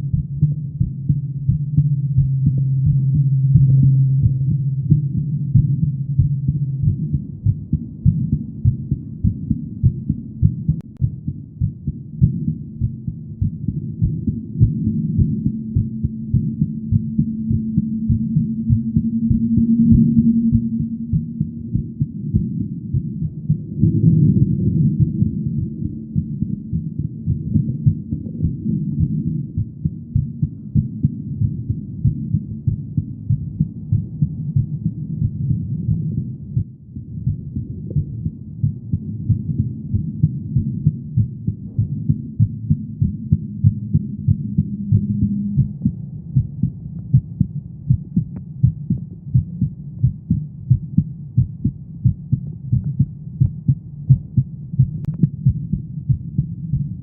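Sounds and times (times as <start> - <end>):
heartbeat: 0.0 - 57.0.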